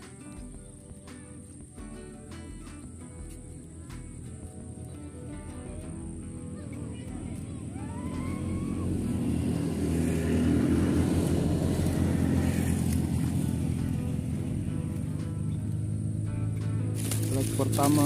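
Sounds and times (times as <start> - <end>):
motorcycle passing by: 0.0 - 18.0.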